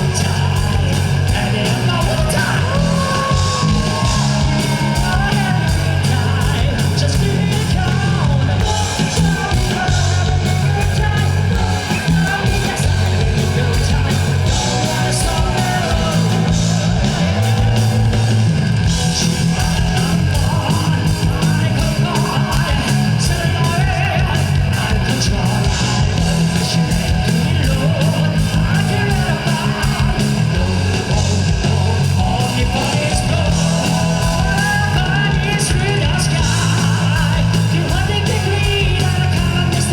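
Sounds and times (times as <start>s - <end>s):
live rock band playing: 0.0s - 39.9s
shouted vocals: 0.0s - 39.9s.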